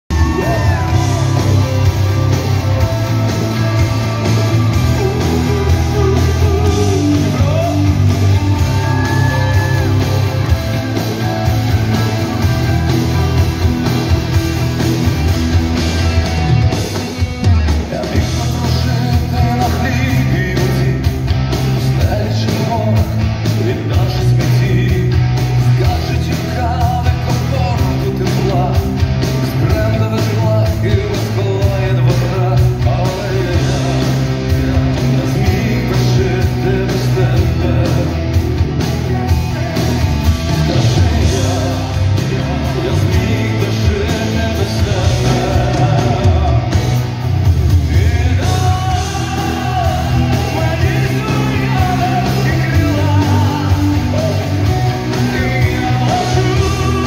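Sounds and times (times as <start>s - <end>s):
live pop-rock band: 0.1s - 57.0s
man singing lead vocals: 0.1s - 57.0s.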